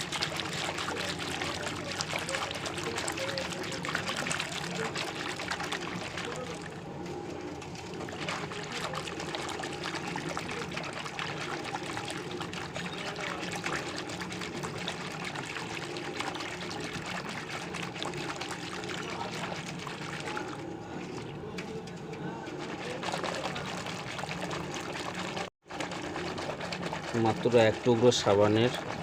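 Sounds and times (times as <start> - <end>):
water splashing in a container: 0.0 - 29.0.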